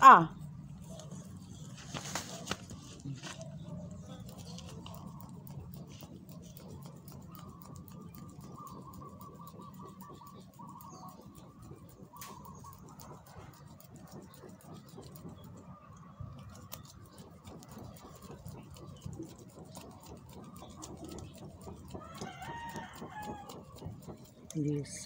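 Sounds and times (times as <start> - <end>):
hand fan waving: 1.7 - 15.7, 16.5 - 25.0.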